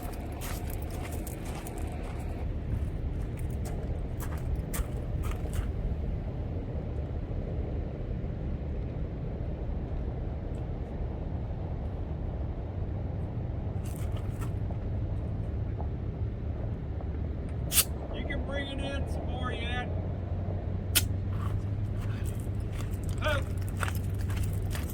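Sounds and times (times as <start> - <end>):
vehicle engine rumbling: 0.0 - 24.9.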